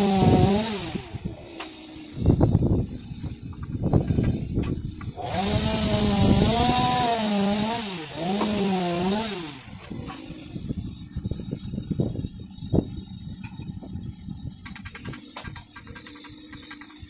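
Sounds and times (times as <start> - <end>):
power tool motor running: 0.0 - 17.0.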